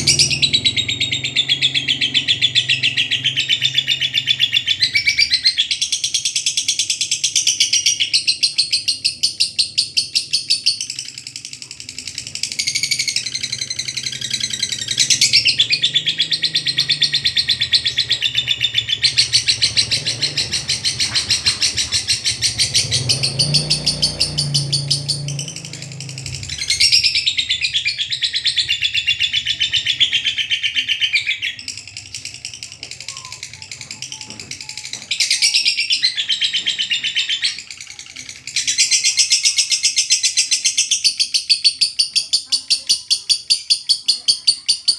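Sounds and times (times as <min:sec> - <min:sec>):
lovebird chattering song: 0:00.0 - 0:44.9.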